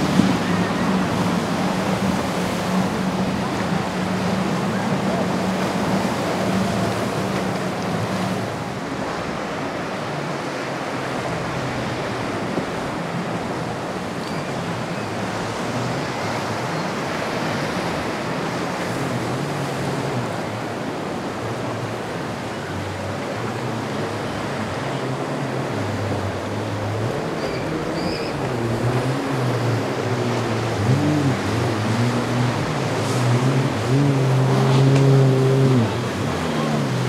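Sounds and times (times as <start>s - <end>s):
boat engine drone: 0.0s - 37.0s
ocean surf: 0.0s - 37.0s.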